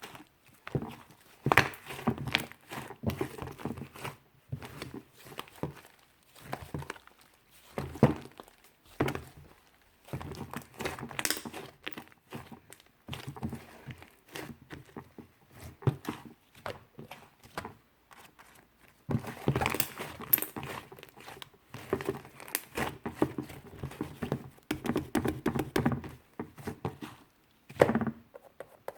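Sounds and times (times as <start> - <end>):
hands squishing slime: 0.0 - 27.4.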